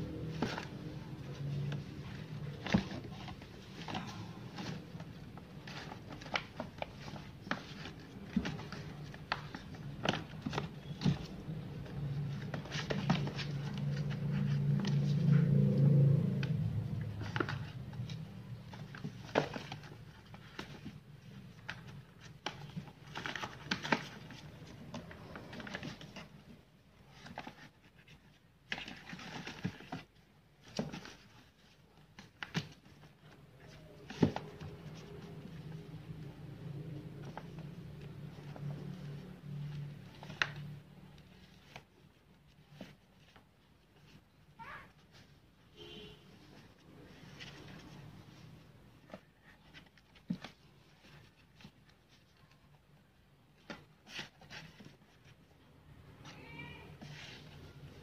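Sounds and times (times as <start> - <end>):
paws scratching and tapping: 0.0 - 45.4, 46.4 - 55.5
paper crinkling and rustling: 0.0 - 58.0.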